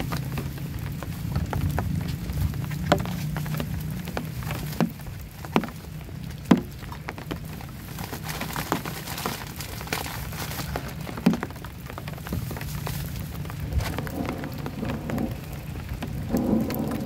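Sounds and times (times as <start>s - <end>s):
heavy raindrops tapping: 0.0s - 17.0s
low rumble of rainfall: 0.0s - 17.0s.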